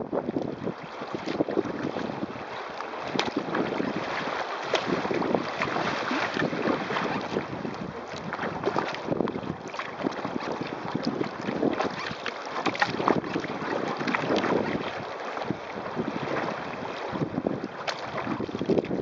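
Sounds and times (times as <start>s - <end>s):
water rushing: 0.0s - 19.0s
waves slapping kayak hull: 0.0s - 19.0s
wind buffeting microphone: 0.0s - 19.0s.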